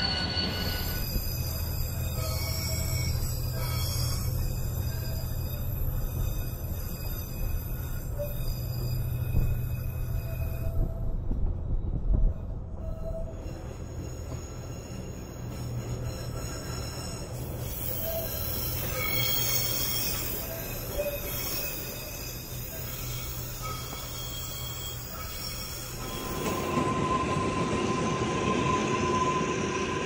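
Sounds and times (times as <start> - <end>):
high-pitched wheel squeal: 0.0 - 11.1, 12.4 - 30.0
train rumbling along track: 0.0 - 30.0.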